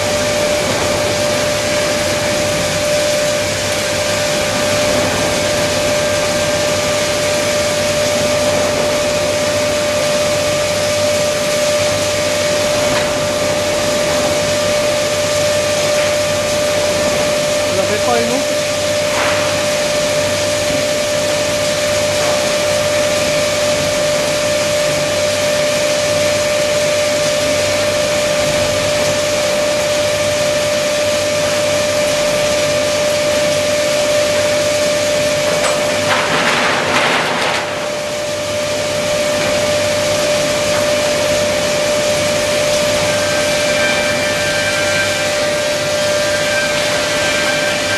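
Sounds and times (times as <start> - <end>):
wood grinder running with whine: 0.0 - 36.2, 37.9 - 47.9.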